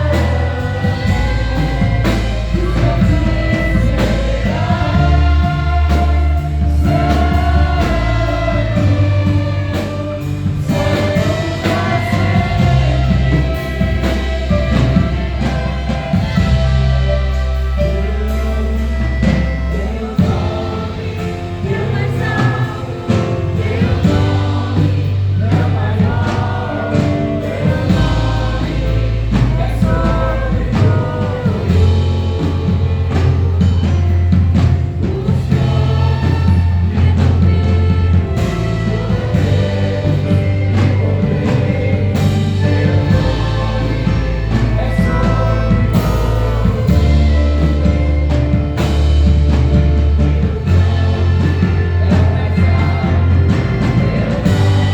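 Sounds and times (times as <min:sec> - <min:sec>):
held bass notes: 0:00.0 - 0:54.9
orchestra playing gospel music: 0:00.0 - 0:54.9
voices singing: 0:00.0 - 0:54.9.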